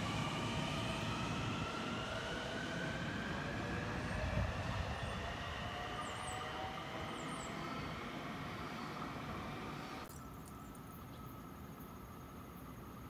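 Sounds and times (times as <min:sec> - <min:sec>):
electric train rumble and whine: 0:00.0 - 0:13.0.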